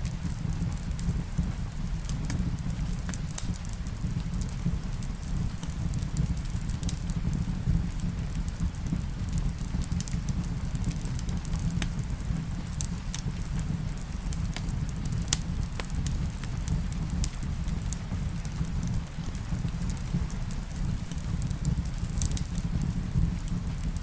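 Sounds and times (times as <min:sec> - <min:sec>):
rain: 0:00.0 - 0:24.0
wood fire crackling and popping: 0:00.0 - 0:24.0.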